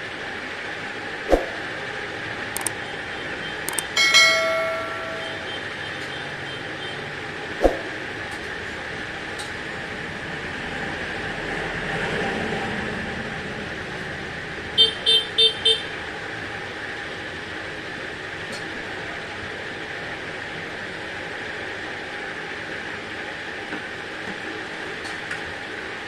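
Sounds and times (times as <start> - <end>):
background traffic: 0.0 - 26.0.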